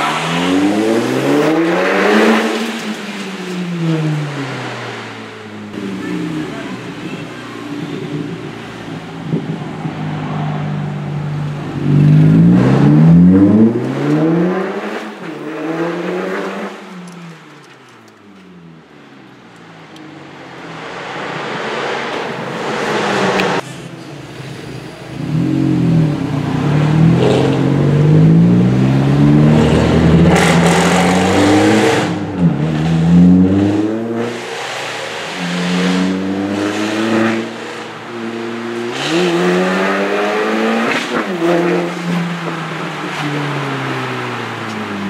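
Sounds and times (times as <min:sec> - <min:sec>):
car engine accelerating: 0:00.0 - 0:45.0.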